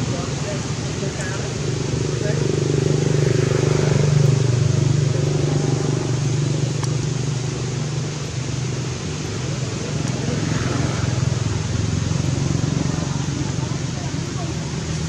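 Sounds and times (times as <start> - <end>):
constant hiss: 0.0 - 15.0
low motor hum: 0.0 - 15.0.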